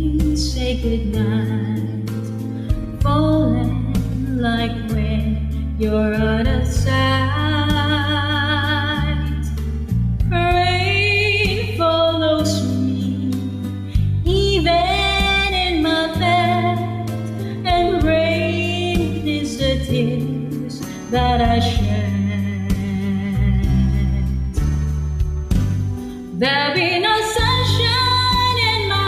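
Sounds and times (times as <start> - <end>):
woman singing a ballad: 0.0 - 25.1, 25.9 - 29.0
instrumental accompaniment: 0.0 - 29.0.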